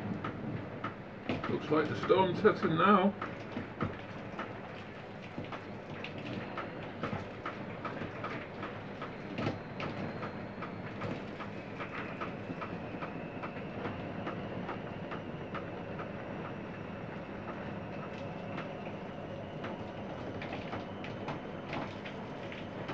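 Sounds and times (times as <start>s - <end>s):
rain tapping through roof: 0.0s - 22.9s.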